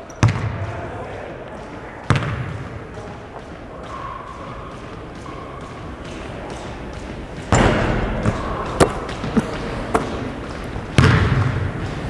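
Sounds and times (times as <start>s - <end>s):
basketballs bouncing in gym: 0.0s - 12.0s
ball smacks: 2.0s - 12.0s.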